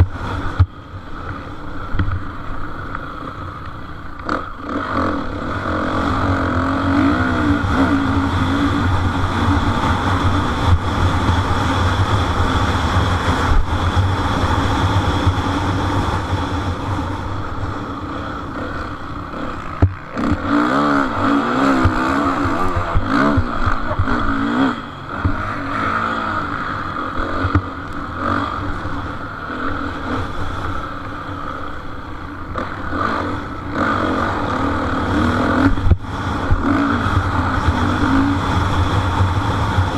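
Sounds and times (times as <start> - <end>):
motocross motorcycle engines revving: 0.0 - 39.9.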